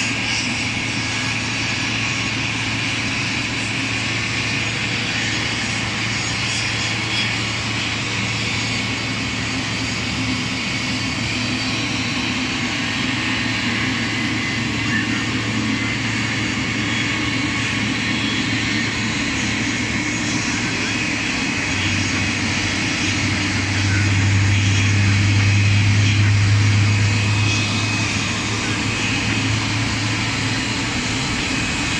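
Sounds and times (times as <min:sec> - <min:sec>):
jet turbine drone with whine: 0:00.0 - 0:31.9.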